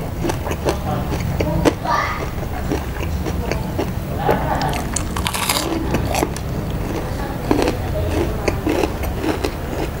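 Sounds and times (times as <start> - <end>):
crispy food chewing crunches: 0.0 - 10.0
low steady hum: 0.0 - 10.0
wet mouth sounds: 0.1 - 10.0.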